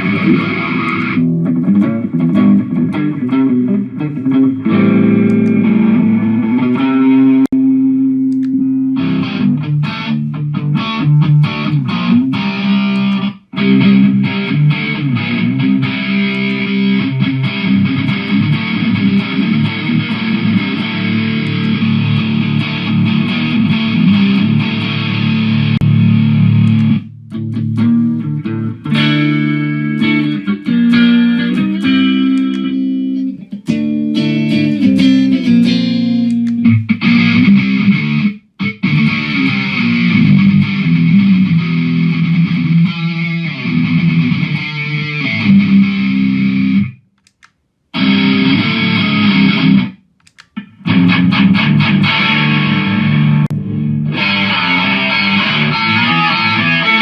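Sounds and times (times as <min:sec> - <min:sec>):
distorted electric guitar: 0:00.0 - 0:47.0, 0:47.9 - 0:57.0.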